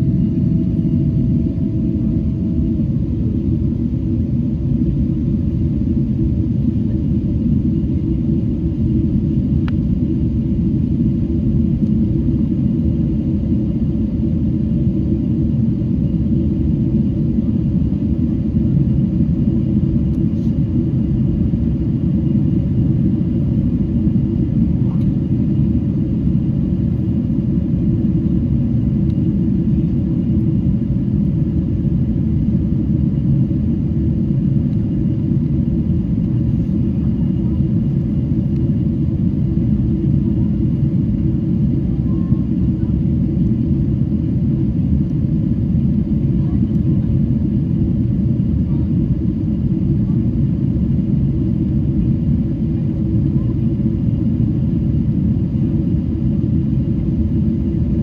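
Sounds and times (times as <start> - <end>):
airliner cabin rumble: 0.0 - 51.0.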